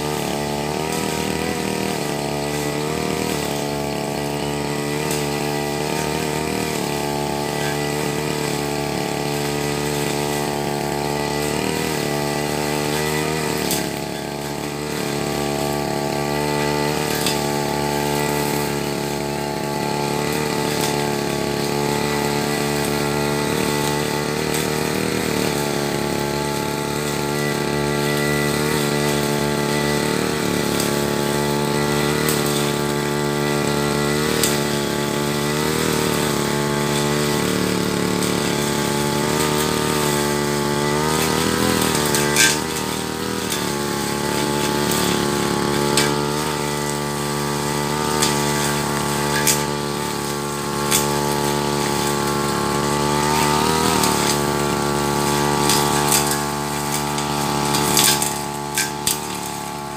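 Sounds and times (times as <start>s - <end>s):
brush cutter engine cutting grass: 0.0s - 59.9s.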